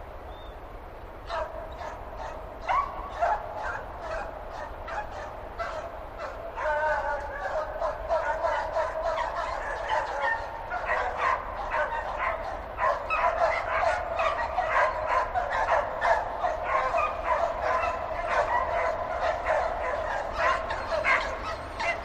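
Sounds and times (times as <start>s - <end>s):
dogs barking and yipping: 1.2s - 22.0s.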